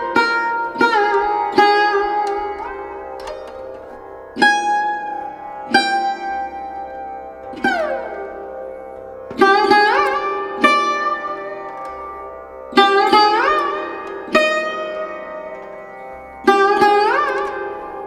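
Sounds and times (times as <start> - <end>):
plucked sitar-like notes: 0.0 - 18.0.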